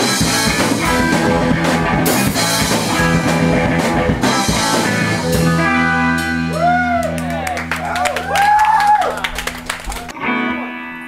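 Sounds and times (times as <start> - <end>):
sliding guitar tones: 0.0 - 8.2, 9.2 - 11.0
punk rock band playing: 0.0 - 11.0.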